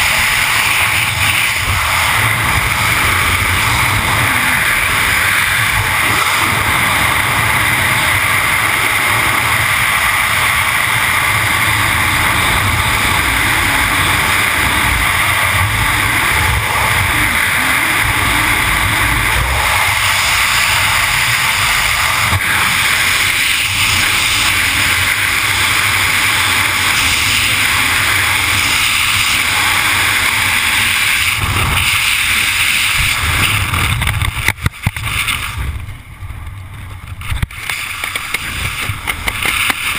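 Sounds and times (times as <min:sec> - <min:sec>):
freefall wind rushing: 0:00.0 - 0:39.9.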